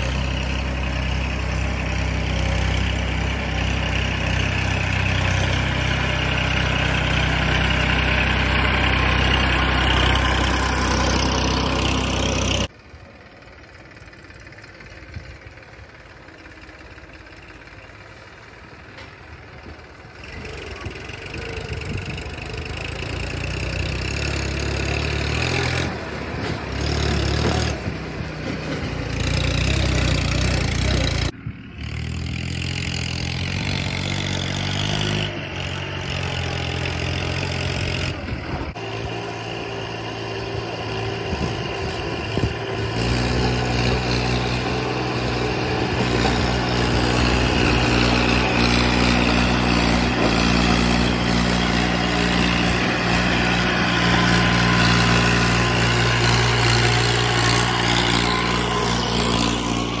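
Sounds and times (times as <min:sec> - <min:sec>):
tractor diesel engine under load: 0:00.0 - 1:00.0.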